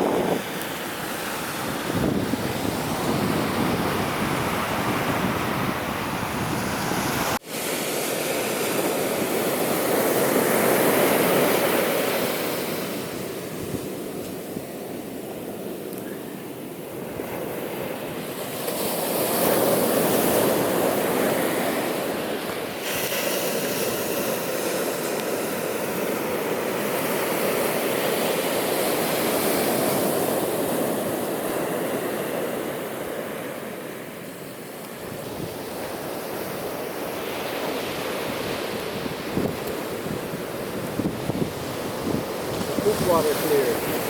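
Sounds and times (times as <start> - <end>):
ocean waves breaking: 0.0 - 44.0.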